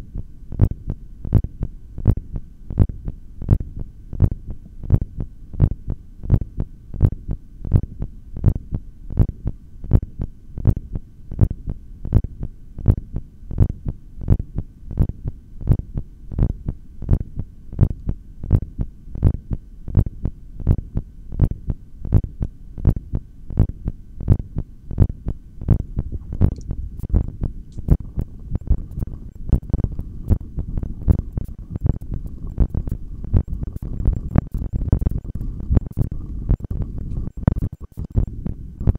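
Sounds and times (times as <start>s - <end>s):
heartbeat through stethoscope: 0.0s - 38.9s
low hum: 0.0s - 38.9s.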